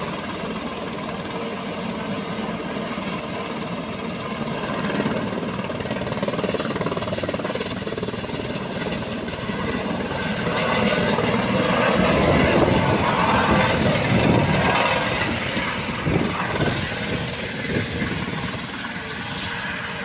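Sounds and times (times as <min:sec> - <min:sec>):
helicopter rotor and engine: 0:00.0 - 0:20.0.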